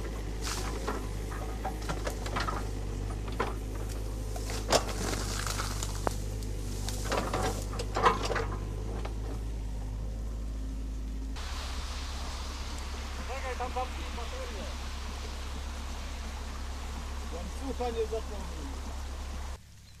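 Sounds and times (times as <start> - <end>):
excavator engine droning: 0.0 - 20.0.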